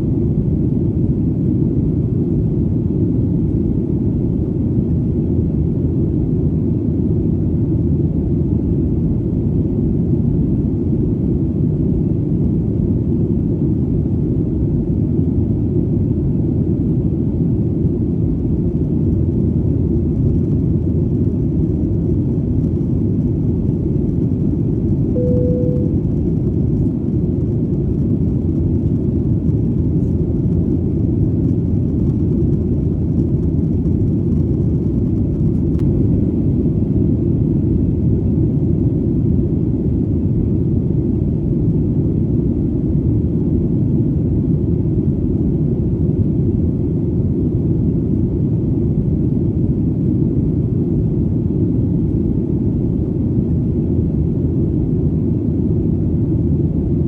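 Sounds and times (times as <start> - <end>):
airplane engines droning: 0.1 - 57.0.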